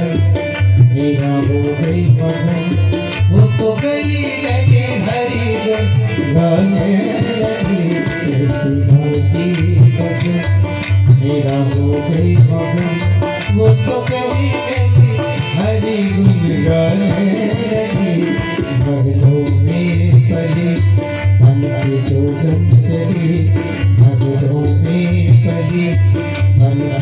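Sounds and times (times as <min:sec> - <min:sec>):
harmonium held notes: 0:00.0 - 0:27.0
tabla rhythm: 0:00.0 - 0:27.0.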